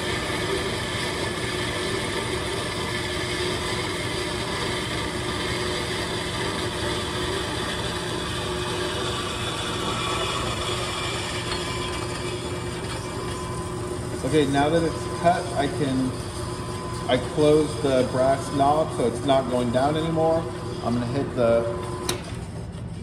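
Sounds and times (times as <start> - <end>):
band saw cutting metal: 0.0 - 22.8.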